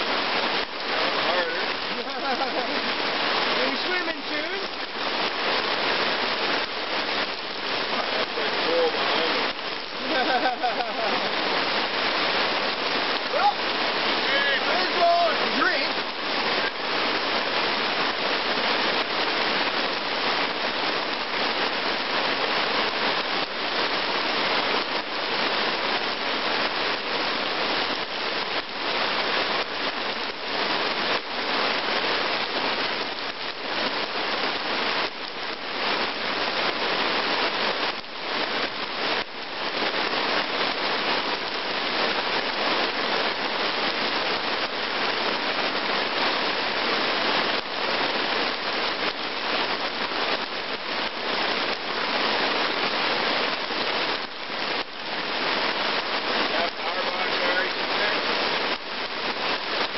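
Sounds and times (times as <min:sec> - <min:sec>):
heavy rain splashing into puddles: 0:00.0 - 0:59.9.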